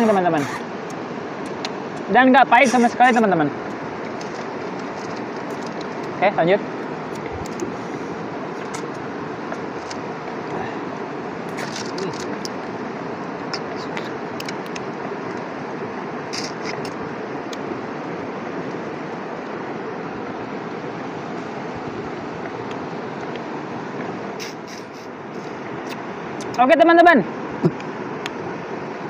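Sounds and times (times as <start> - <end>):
river flowing over rocks: 0.0 - 29.0.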